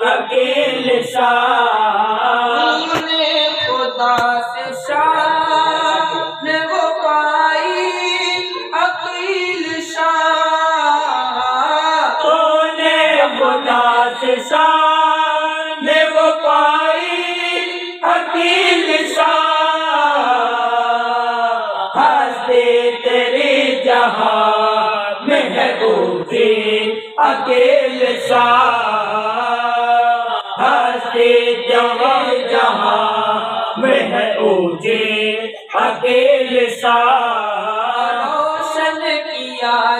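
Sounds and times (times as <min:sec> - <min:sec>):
men chanting devotional song: 0:00.0 - 0:39.9.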